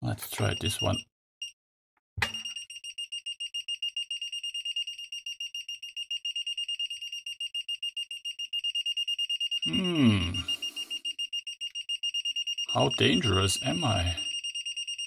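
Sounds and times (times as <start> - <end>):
rapid high-pitched beeps: 2.3 - 9.8, 10.4 - 15.0.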